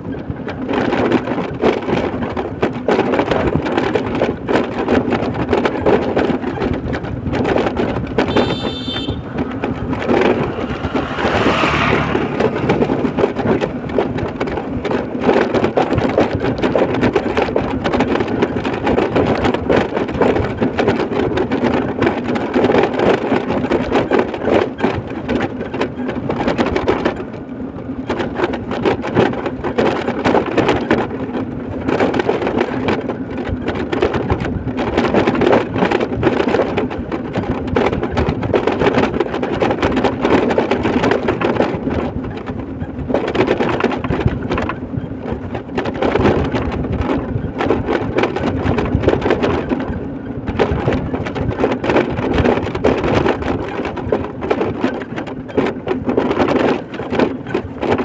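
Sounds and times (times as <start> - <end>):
vehicle engine and road rumble: 0.0 - 58.0
crackling and rattling: 0.1 - 58.0.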